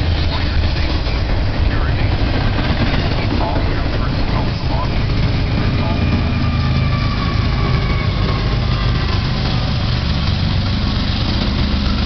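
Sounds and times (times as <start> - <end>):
diesel locomotive engine rumble: 0.0 - 12.0
faint engine whine: 0.0 - 12.0.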